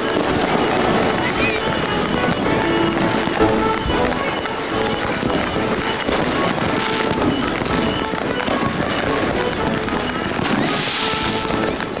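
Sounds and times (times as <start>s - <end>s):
background music: 0.0s - 12.0s
bright hissing crackle: 0.0s - 12.0s
fireworks bangs and crackles: 0.0s - 12.0s.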